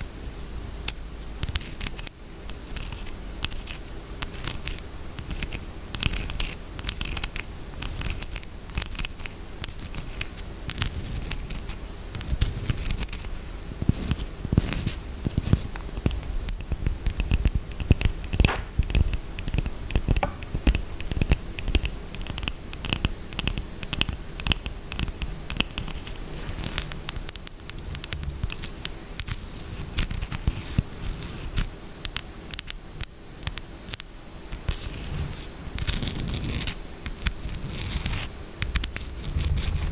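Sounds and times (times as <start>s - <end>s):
scratching on soap: 0.2s - 32.7s, 33.9s - 39.9s.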